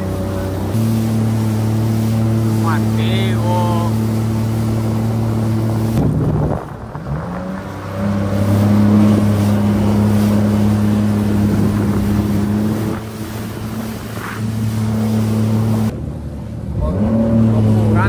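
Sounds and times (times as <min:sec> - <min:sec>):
jet ski engine running: 0:00.0 - 0:18.0
wind and water spray: 0:00.0 - 0:18.0.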